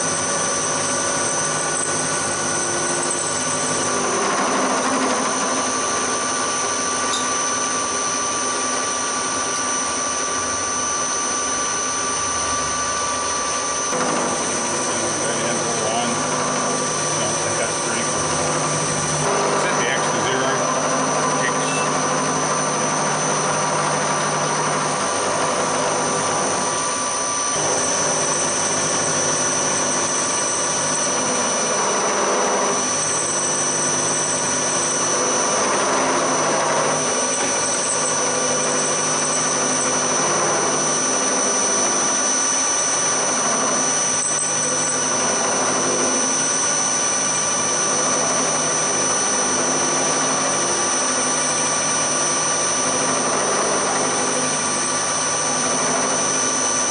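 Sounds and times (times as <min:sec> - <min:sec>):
end mill cutting metal: 0:00.0 - 0:56.9
milling machine drone: 0:00.0 - 0:56.9.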